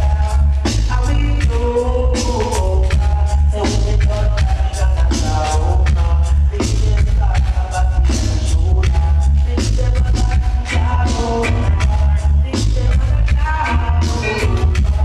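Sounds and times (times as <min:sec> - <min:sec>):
heavy booming bass: 0:00.0 - 0:15.0
singing: 0:00.0 - 0:15.0
steady drum beat: 0:00.0 - 0:15.0.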